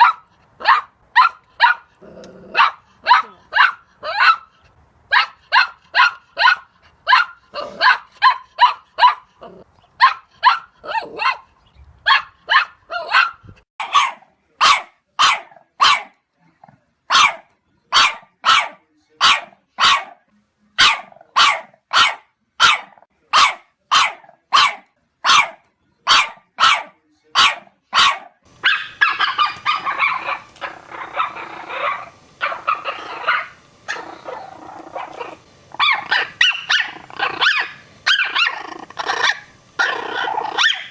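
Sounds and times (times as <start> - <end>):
puppies barking: 0.0 - 16.1, 17.1 - 17.4, 20.8 - 40.9.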